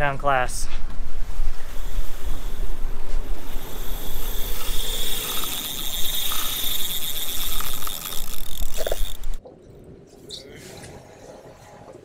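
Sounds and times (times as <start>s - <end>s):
sea noise: 0.8s - 12.0s.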